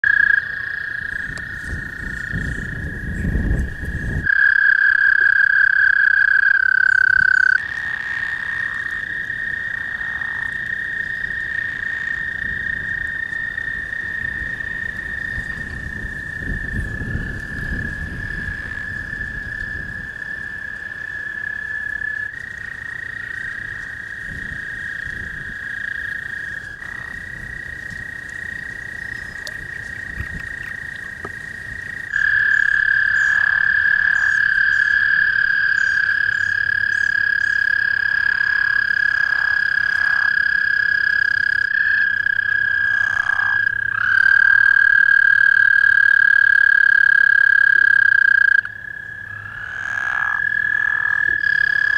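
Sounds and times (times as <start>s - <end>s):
frogs croaking: 0.0s - 51.9s
toads trilling: 0.0s - 51.9s.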